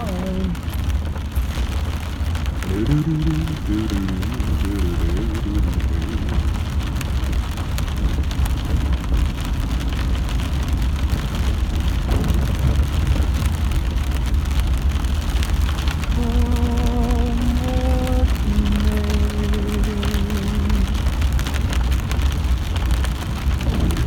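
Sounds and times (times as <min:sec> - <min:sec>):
low road rumble: 0:00.0 - 0:24.0
rain pattering on car: 0:00.0 - 0:24.0.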